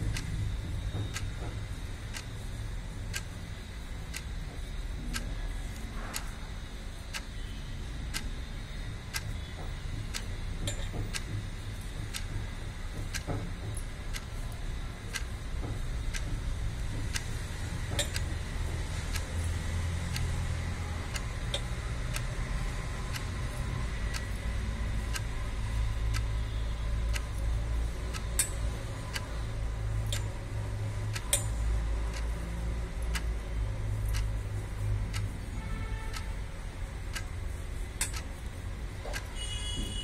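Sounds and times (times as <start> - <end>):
light ticking: 0.0 - 40.0
steady low hum: 0.0 - 40.0.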